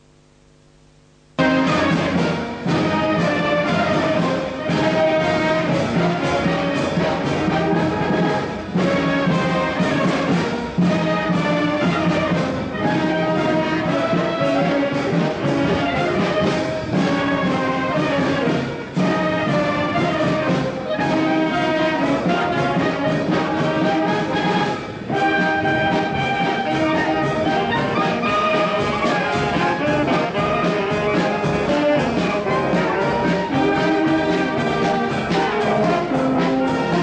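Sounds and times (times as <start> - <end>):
trombones playing: 1.3 - 37.0
trumpets playing: 1.4 - 37.0.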